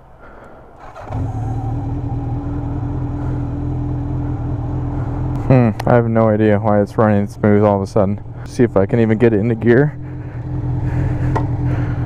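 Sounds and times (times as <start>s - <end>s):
motorcycle engine idling: 0.8s - 12.0s.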